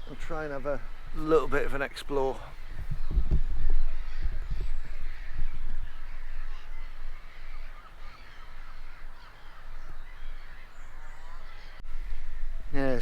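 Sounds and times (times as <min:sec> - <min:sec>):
birds calling: 0:00.0 - 0:13.0
wind rumble on microphone: 0:02.4 - 0:13.0.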